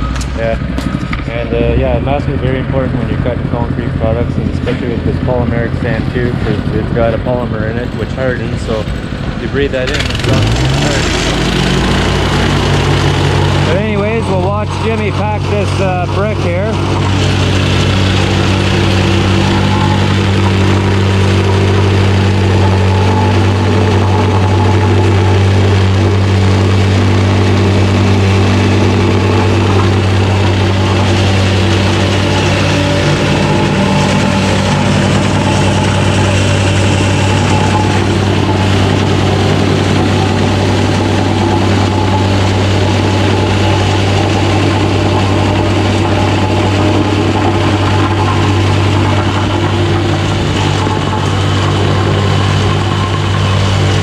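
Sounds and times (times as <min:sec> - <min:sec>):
plate compactor engine running: 0:00.0 - 0:54.0.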